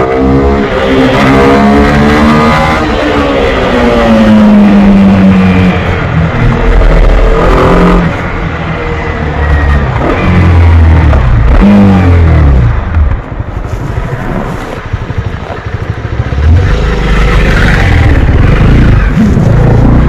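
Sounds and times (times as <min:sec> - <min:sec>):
motorcycle engine revving: 0:00.0 - 0:13.2, 0:14.4 - 0:20.0.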